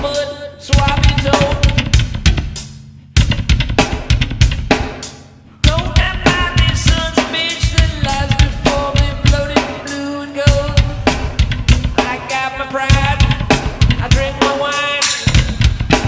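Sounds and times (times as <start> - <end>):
drum-kit beat: 0.0 - 16.0.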